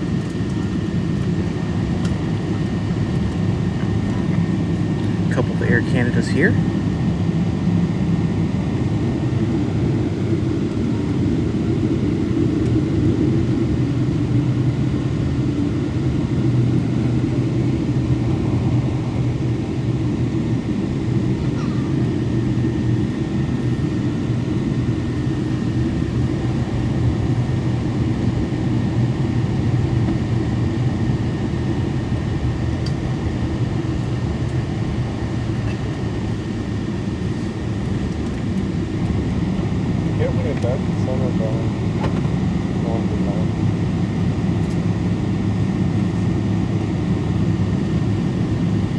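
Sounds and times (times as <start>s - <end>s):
aircraft cabin engine rumble: 0.0s - 48.9s.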